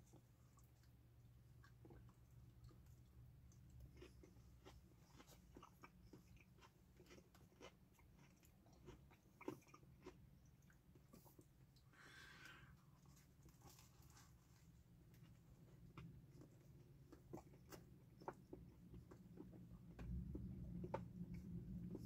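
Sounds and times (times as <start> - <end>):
person chewing: 0.0 - 14.0, 15.1 - 22.0
low steady hum: 0.0 - 22.0.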